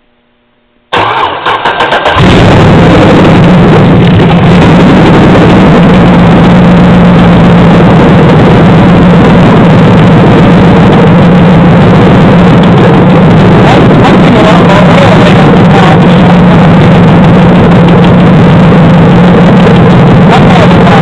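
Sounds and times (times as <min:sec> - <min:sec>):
engine running: 0:00.9 - 0:21.0
lifter ticking: 0:02.1 - 0:21.0.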